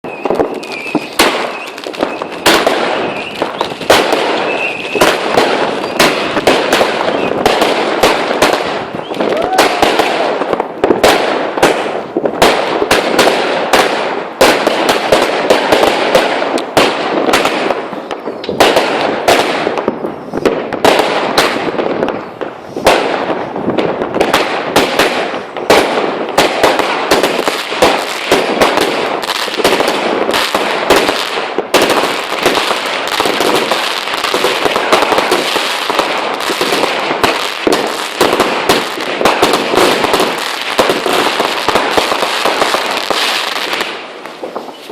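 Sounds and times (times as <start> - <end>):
firecrackers banging: 0.0 - 44.9.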